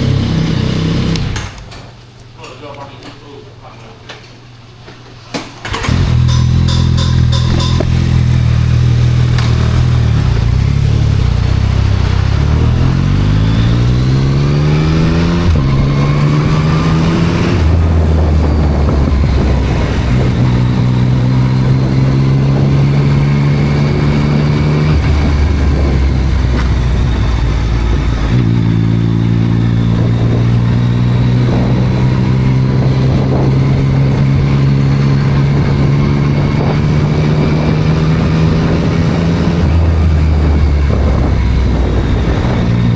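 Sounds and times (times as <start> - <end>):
motorcycle engine revving: 0.0 - 1.8, 5.6 - 42.9.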